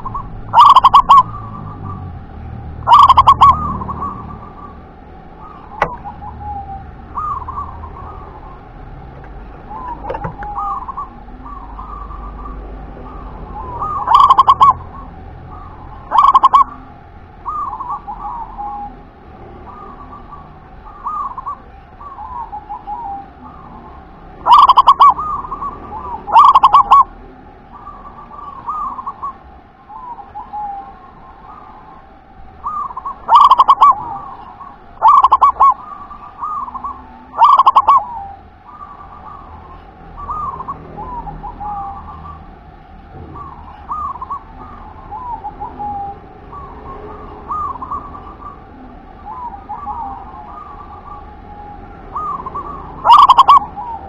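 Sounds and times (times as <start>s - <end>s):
dove staccato song phrases: 0.0s - 2.0s, 2.8s - 8.9s, 9.6s - 16.8s, 17.4s - 51.2s, 52.1s - 54.0s
soft dove cooing: 0.0s - 2.2s, 2.8s - 54.0s.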